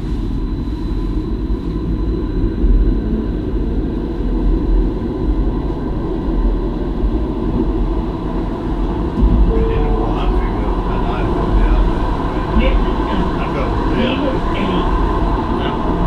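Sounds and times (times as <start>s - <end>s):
faint high whine: 0.0s - 16.0s
tram wheels rumbling on rails: 1.7s - 16.0s.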